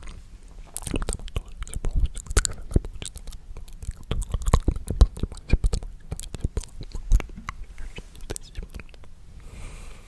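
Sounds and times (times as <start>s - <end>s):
wet mouth clicks and lip smacks: 0.0s - 9.1s.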